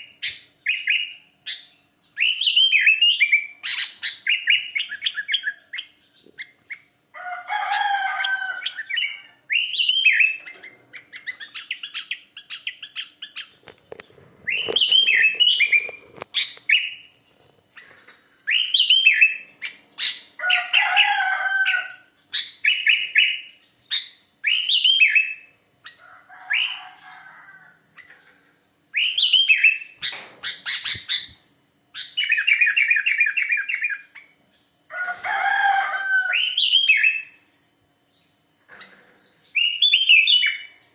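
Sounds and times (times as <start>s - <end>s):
bird singing warbling phrases: 0.0s - 7.0s, 8.1s - 17.1s, 17.7s - 27.0s, 27.8s - 37.4s, 38.2s - 40.9s.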